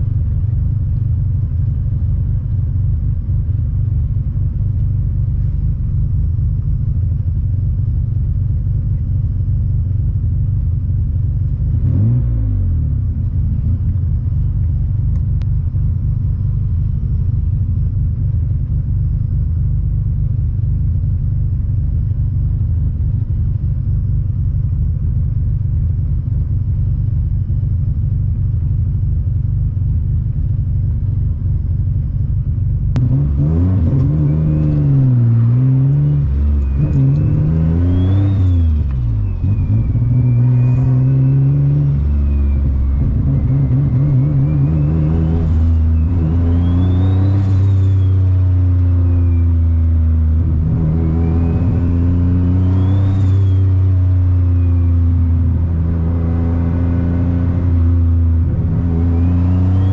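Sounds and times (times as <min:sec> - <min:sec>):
car engine accelerating: 0:00.0 - 0:59.9
turbo whine: 0:00.0 - 0:59.9.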